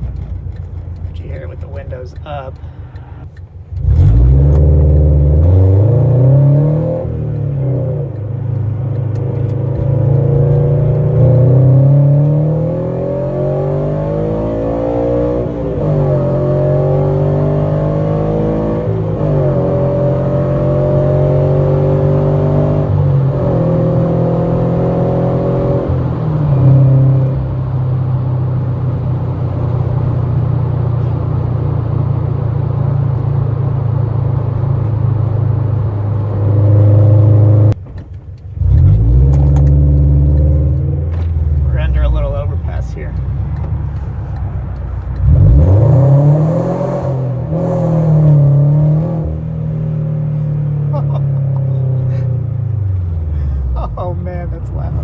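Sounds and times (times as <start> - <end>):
car engine revving through gears: 0.0 - 55.0.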